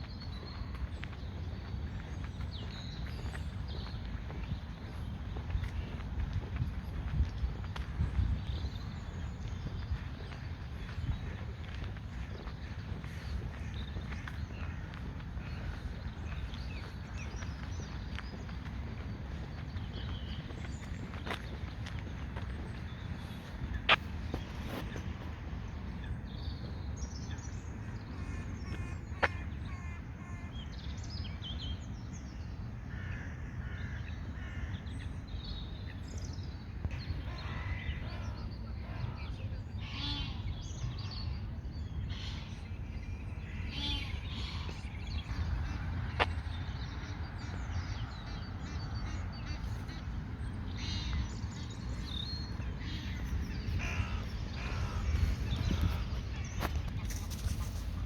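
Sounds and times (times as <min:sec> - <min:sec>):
birds calling: 0:00.0 - 0:31.0, 0:32.9 - 0:58.0
low outdoor rumble: 0:00.0 - 0:58.0.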